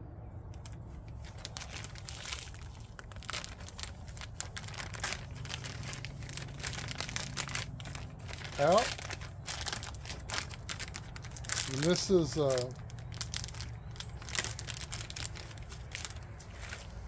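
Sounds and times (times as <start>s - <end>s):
plastic bag crinkling: 0.6s - 17.0s.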